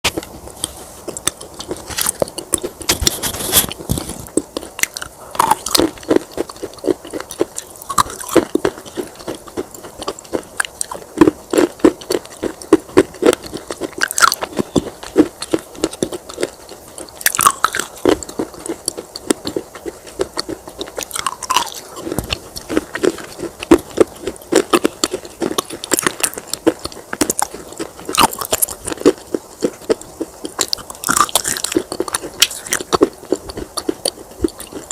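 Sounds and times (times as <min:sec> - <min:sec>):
clay pieces crunching when chewed: 0:00.1 - 0:34.9.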